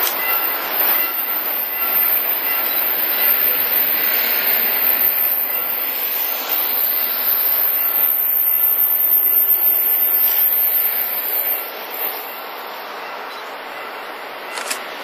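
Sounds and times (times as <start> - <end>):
faint high steady tones: 0.0 - 14.7
freight train rushing: 0.0 - 15.0.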